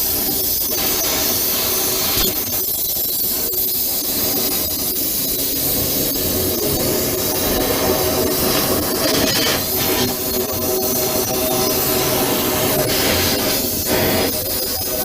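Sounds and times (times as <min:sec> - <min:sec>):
cutting tool hissing through steel: 0:00.0 - 0:15.0.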